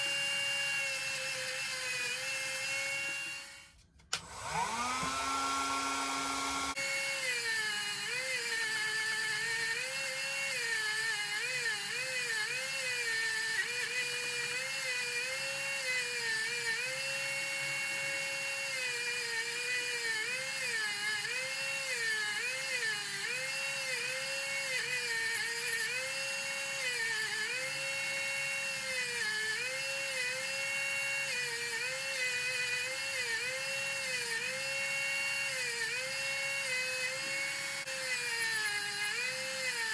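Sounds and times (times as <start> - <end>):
electric rotary tool spinning: 0.0 - 39.9.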